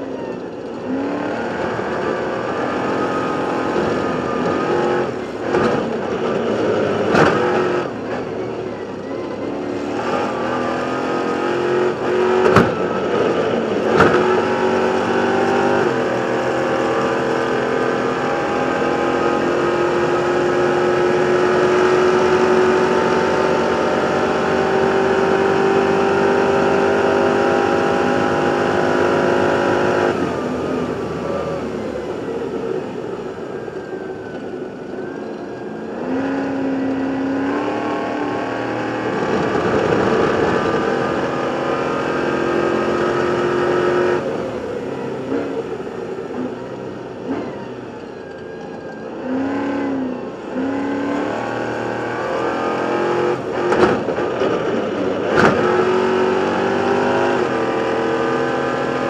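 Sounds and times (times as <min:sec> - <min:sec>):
racing engine at high revs: 0:00.0 - 0:59.0.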